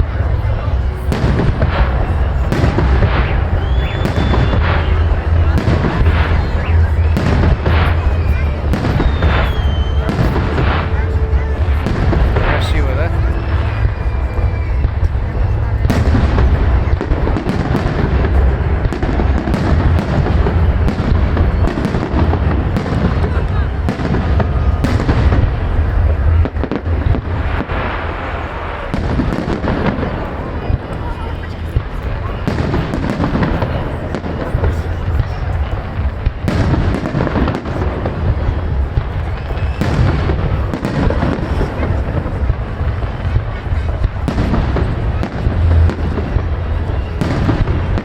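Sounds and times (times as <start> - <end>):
firework cracks: 0.0 - 48.0
rumble of firework booms: 0.0 - 48.0.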